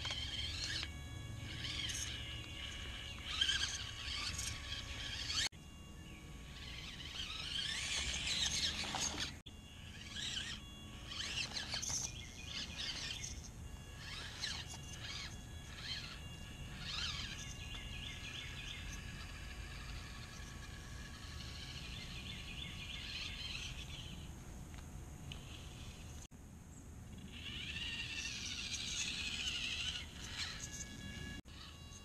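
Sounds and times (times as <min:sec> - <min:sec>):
birds chirping and singing: 0:00.0 - 0:24.4, 0:25.3 - 0:32.0.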